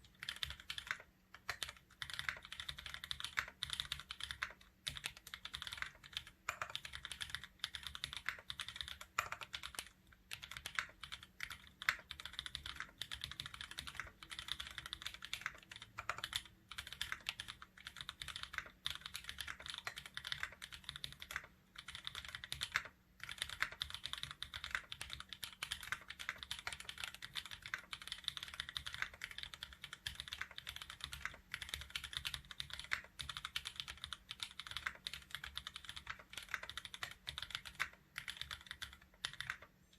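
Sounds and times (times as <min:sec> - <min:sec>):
fast typing on mechanical keyboard: 0:00.0 - 0:39.7.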